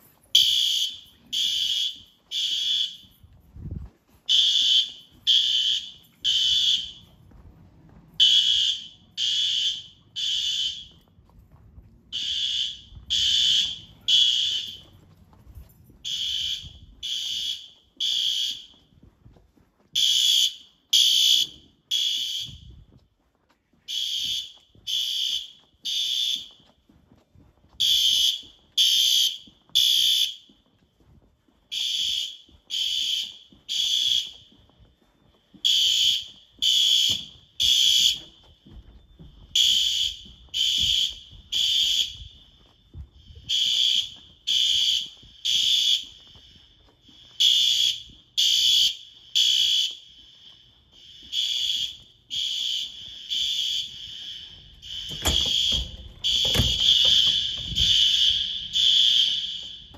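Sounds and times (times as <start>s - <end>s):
fire alarm horn blasts: 0.1s - 7.3s, 8.1s - 11.2s, 12.1s - 19.0s, 19.9s - 22.9s, 23.8s - 26.7s, 27.8s - 30.6s, 31.7s - 59.9s.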